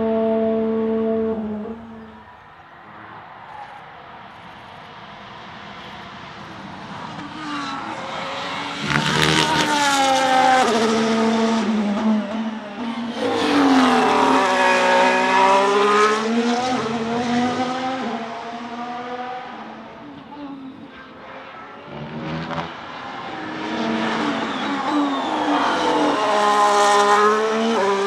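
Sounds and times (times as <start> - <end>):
racing car engine: 0.0 - 28.0.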